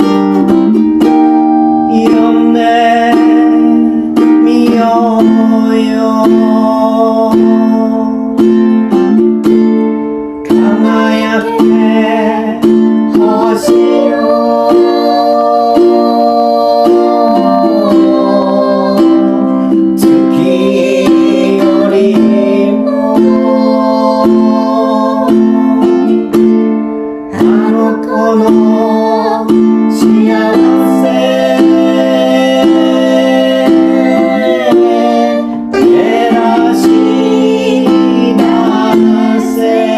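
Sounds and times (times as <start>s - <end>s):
held melody line: 0.0s - 39.9s
ukulele strumming: 0.0s - 39.9s.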